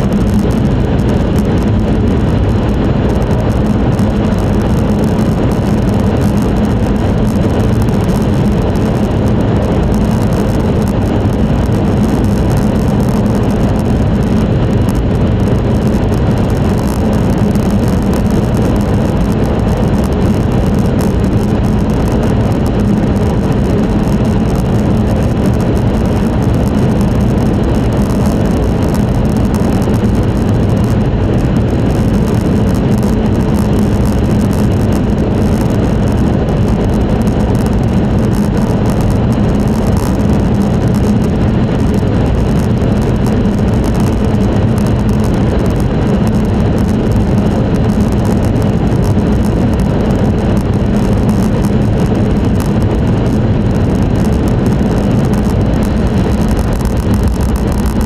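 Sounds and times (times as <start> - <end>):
train cabin running drone: 0.0 - 58.0.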